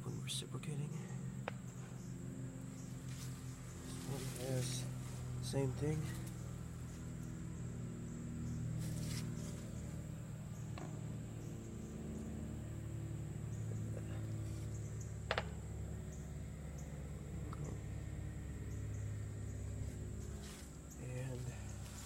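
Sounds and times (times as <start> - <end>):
air conditioner low hum: 0.0 - 22.0.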